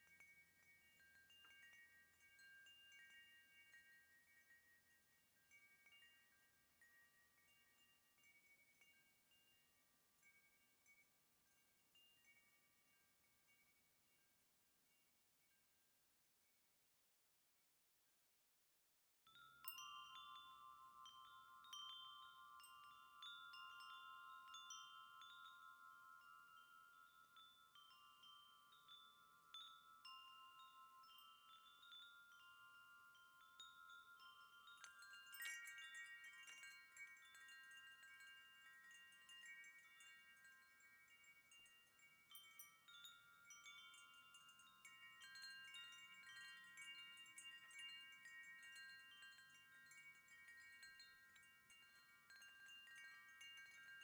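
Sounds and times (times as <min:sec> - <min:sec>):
wind chime ringing: 0:00.0 - 0:13.7, 0:19.3 - 0:54.0.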